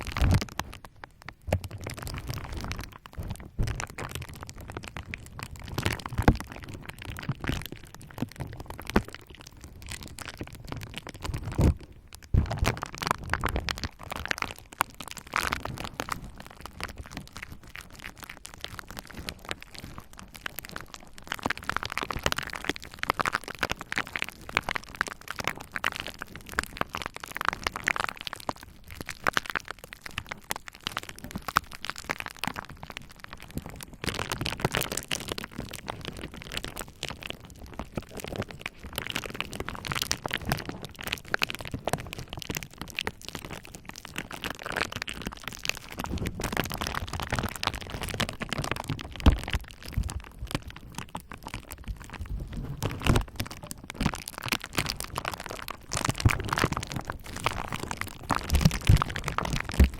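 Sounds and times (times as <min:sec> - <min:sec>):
bubble wrap crackling and popping: 0:00.0 - 0:59.9.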